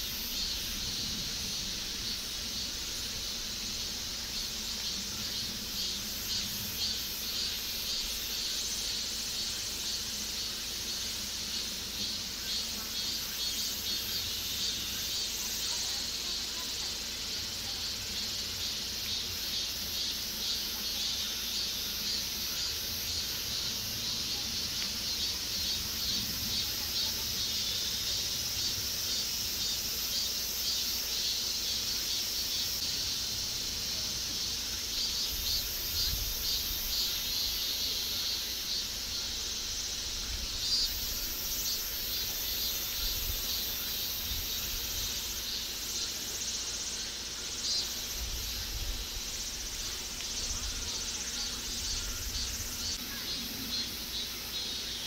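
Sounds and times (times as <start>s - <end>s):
insects shrilling: 0.0s - 55.0s.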